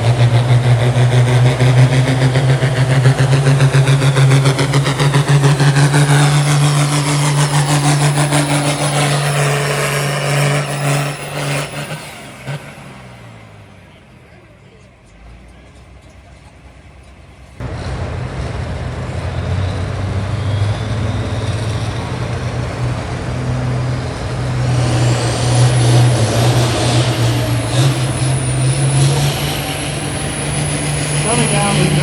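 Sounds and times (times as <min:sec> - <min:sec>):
tractor engine running under load: 0:00.0 - 0:32.0.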